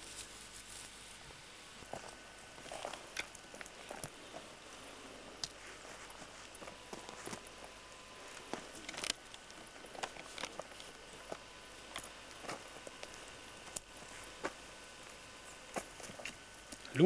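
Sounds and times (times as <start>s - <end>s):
faint steady hiss: 0.0s - 17.0s
footsteps on dirt trail: 1.7s - 16.4s.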